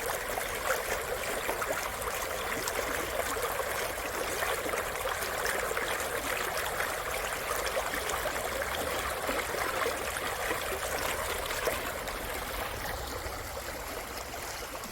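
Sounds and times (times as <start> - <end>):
stream flowing: 0.0 - 14.9.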